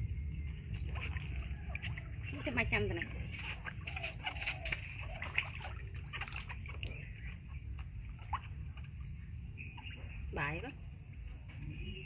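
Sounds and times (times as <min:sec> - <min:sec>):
birds chirping: 0:00.0 - 0:12.0
water splashing in plastic tub: 0:00.2 - 0:10.8.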